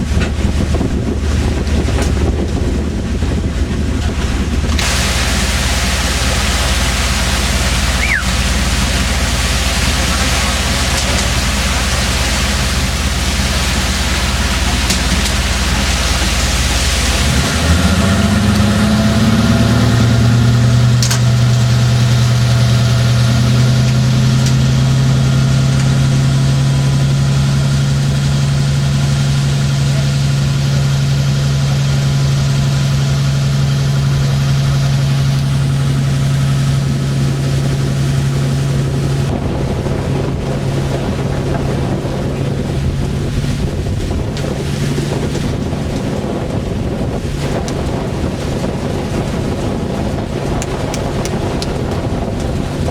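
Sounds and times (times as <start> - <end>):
boat engine hum: 0.0 - 52.9
sea noise: 0.0 - 52.9
wind on microphone: 0.0 - 52.9.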